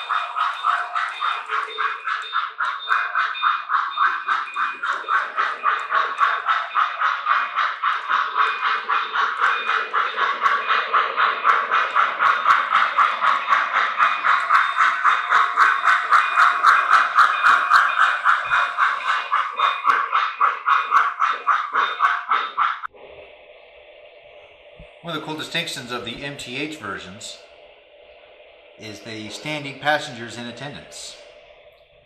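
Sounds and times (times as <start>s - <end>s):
model train steam chuffing: 0.0s - 22.9s, 25.0s - 27.4s, 28.8s - 31.3s.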